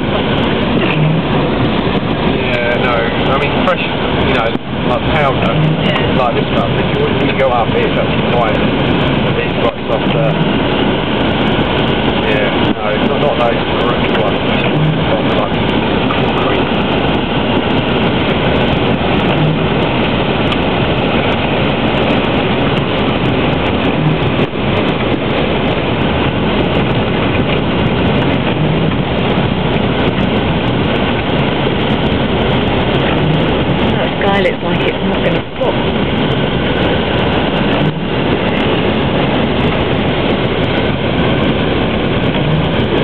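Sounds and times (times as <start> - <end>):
vehicle engine and tyre rumble: 0.0 - 43.0.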